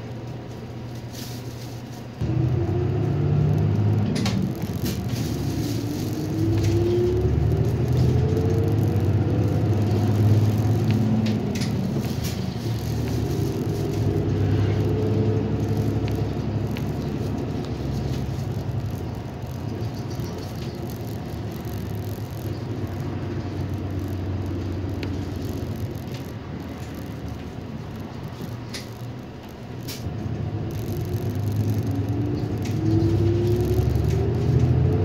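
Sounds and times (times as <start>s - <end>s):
bus engine rumble and whine: 0.0s - 35.0s.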